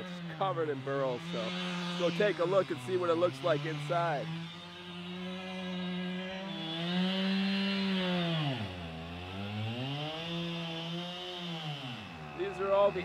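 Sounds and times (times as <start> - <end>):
chainsaw running hard: 0.0 - 13.0.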